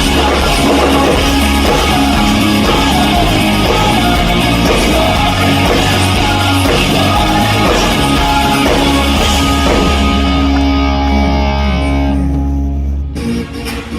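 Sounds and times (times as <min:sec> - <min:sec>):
person singing: 0:00.0 - 0:12.4
live rock band: 0:00.0 - 0:13.9.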